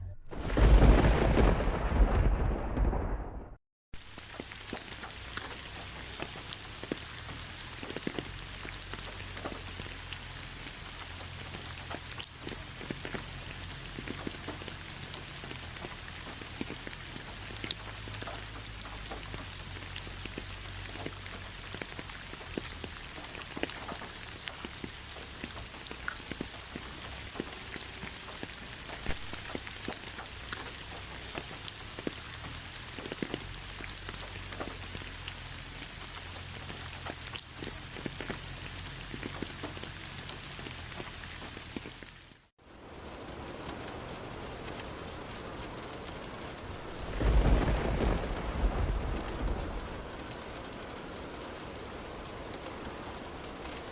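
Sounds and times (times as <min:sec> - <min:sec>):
rain drops pattering: 0:00.3 - 0:53.9.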